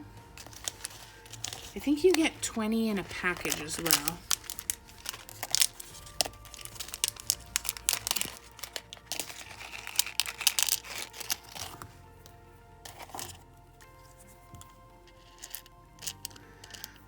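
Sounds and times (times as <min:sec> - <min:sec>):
plastic packaging crinkling: 0:00.0 - 0:17.0
soft background music: 0:00.0 - 0:17.0.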